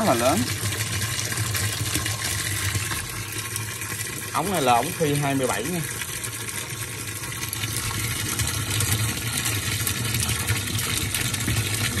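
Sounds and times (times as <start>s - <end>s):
water gushing into metal drum: 0.0s - 12.0s.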